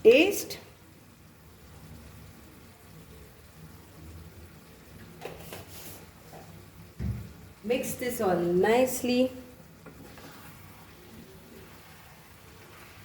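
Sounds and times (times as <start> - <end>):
onions sizzling in a pan: 0.1 - 13.0.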